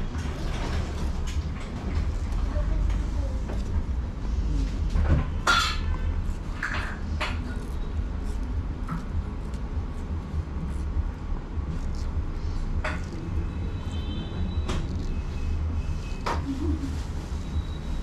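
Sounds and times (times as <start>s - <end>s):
low room rumble: 0.0s - 18.0s.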